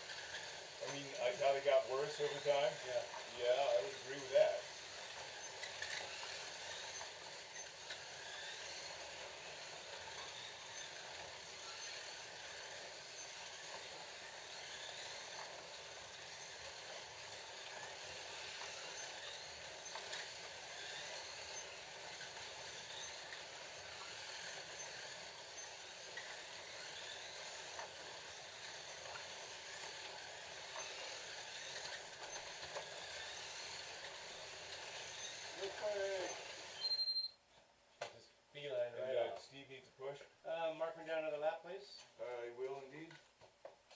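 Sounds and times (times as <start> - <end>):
slot cars clicking on track: 0.0 - 36.9
small electric motors whirring: 0.0 - 37.4.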